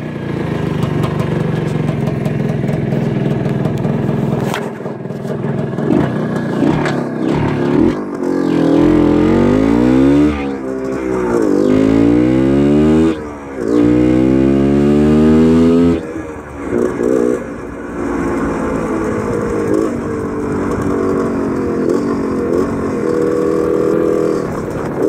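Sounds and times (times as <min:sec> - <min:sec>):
two-stroke motorcycle engine revving: 0:00.0 - 0:25.0.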